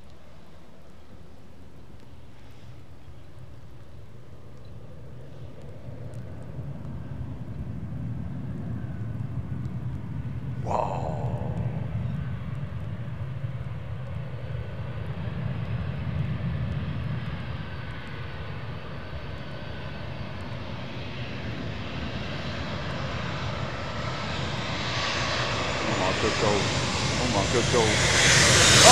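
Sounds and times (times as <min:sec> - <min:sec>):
jet engines rumbling: 0:01.7 - 0:19.0, 0:20.2 - 0:28.9.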